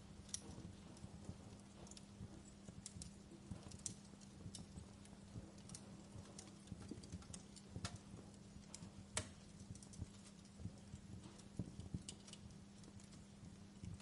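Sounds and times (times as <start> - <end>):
campfire crackling and popping: 0.0 - 14.0
faint steady hum: 0.0 - 14.0.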